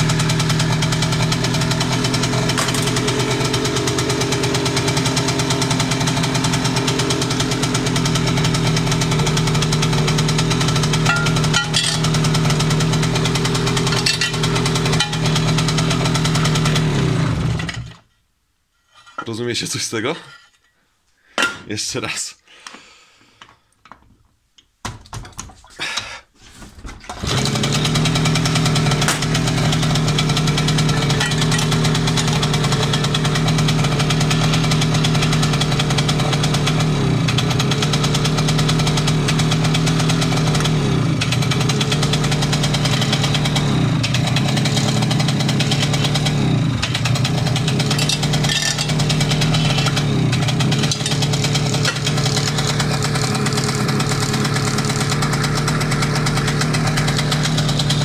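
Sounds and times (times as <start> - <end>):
two-stroke engine idling: 0.0 - 17.9, 27.2 - 58.0
moped engine kick start: 0.0 - 18.0, 26.7 - 58.0.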